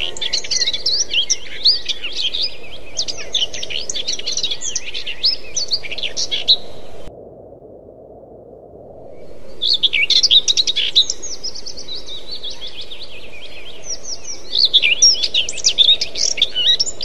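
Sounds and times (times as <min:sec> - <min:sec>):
songbirds twittering: 0:00.0 - 0:07.1, 0:09.1 - 0:17.0
steady low hiss: 0:00.0 - 0:17.0.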